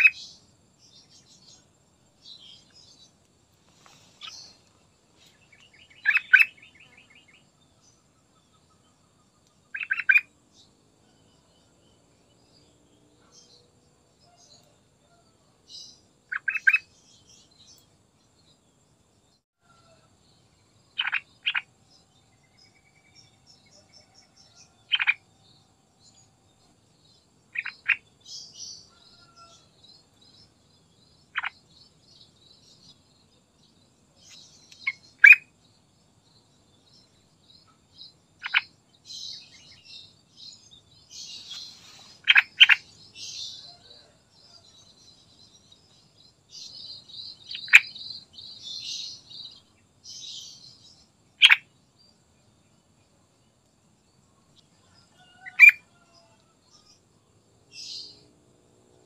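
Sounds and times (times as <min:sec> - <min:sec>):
faint high twittering: 0:00.0 - 0:52.2.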